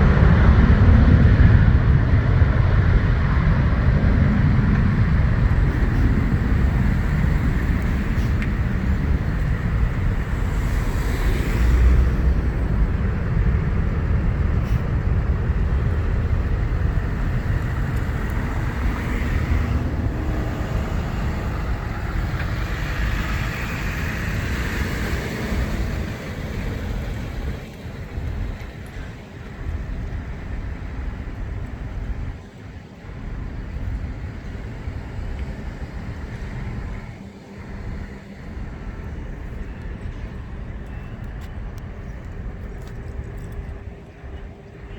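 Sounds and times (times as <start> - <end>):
jet airliner rumbling: 0.0 - 44.9.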